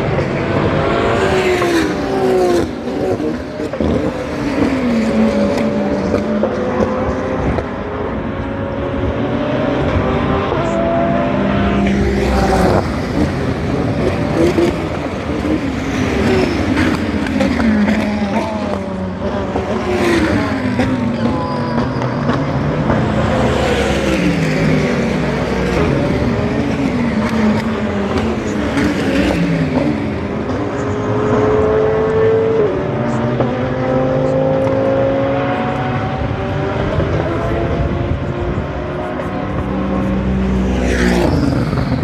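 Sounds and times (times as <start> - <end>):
race cars passing at speed: 0.0 - 42.0.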